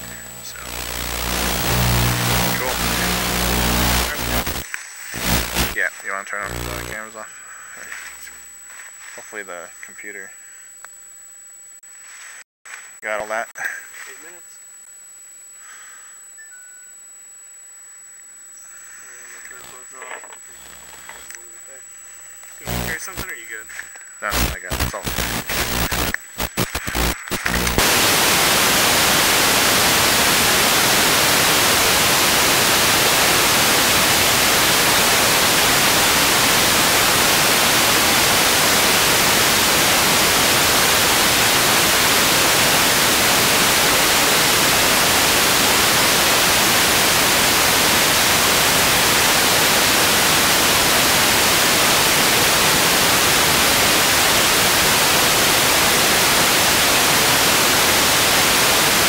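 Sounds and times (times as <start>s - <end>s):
loud static hiss: 0.0s - 16.1s, 17.8s - 59.0s.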